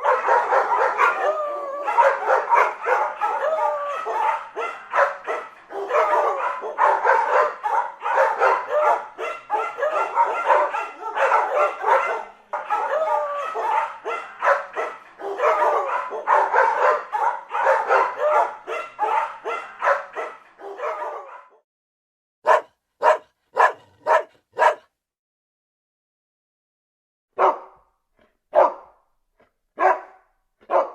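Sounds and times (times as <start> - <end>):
dog barking and yipping: 0.0 - 21.6, 22.4 - 24.9, 27.4 - 28.9, 29.8 - 30.9.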